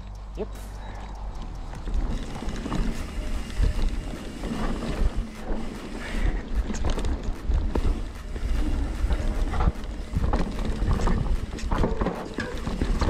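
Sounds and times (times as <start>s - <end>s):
wind buffeting microphone: 1.0s - 13.0s
bike clattering: 1.1s - 13.0s
tyres rumbling on dirt: 1.6s - 13.0s.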